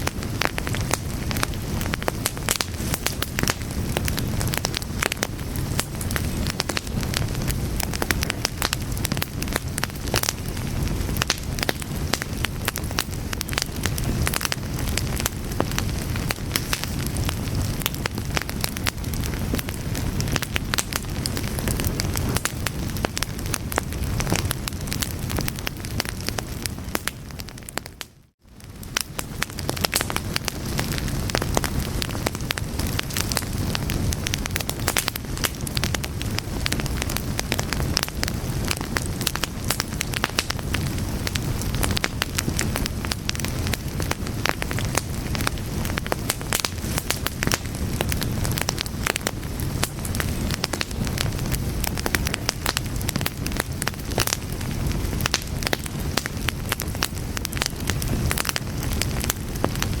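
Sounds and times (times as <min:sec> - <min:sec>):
fire crackling and popping: 0:00.0 - 1:00.0
low rumble of flames: 0:00.0 - 1:00.0.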